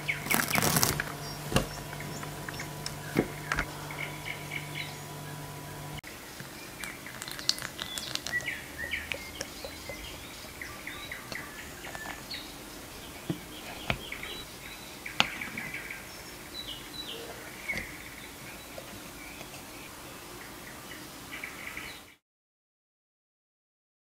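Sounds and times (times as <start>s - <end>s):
birds chirping: 0.0s - 22.2s.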